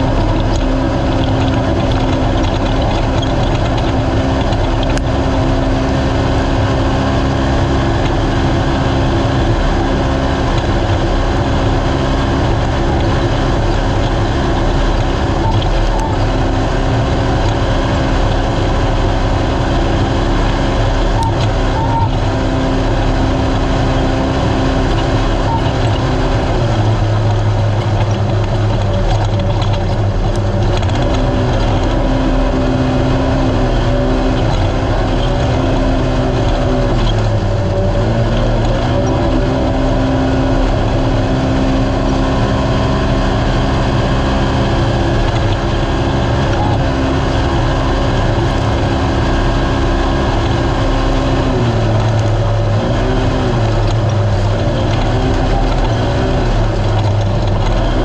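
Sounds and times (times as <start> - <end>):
race car engine revving high: 0.0 - 58.0
rough road noise: 0.0 - 58.0.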